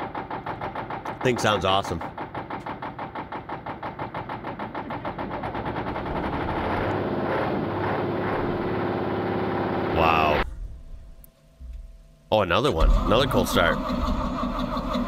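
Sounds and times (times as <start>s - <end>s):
diesel engine running: 0.0s - 11.9s, 12.7s - 15.0s.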